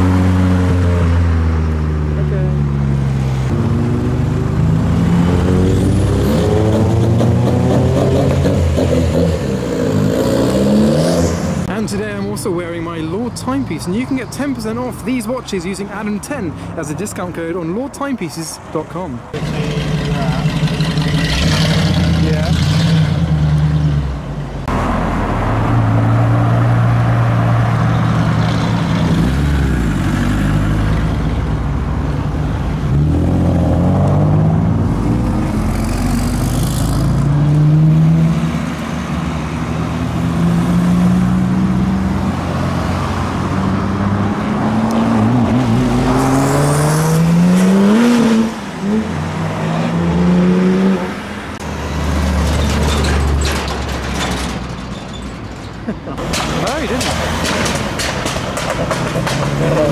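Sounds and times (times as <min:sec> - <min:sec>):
cars revving past: 0:00.0 - 0:11.7, 0:19.3 - 0:54.7, 0:56.1 - 0:59.9.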